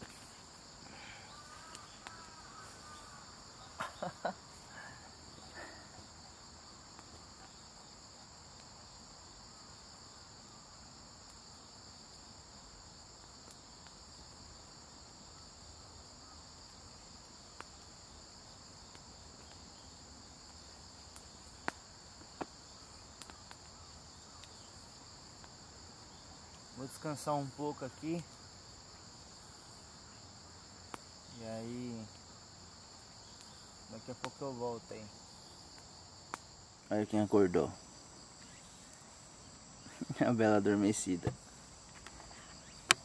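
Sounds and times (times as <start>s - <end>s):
insects chirping: 0.0s - 43.0s.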